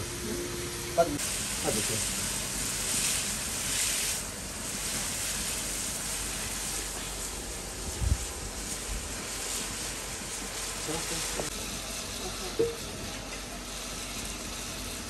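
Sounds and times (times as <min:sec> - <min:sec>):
food sizzling in hot oil: 0:00.2 - 0:15.0.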